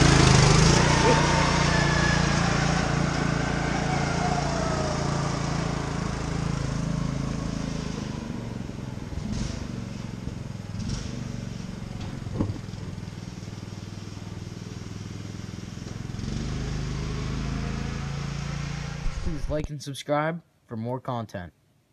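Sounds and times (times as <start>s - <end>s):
riding lawn mower engine running: 0.0s - 19.7s.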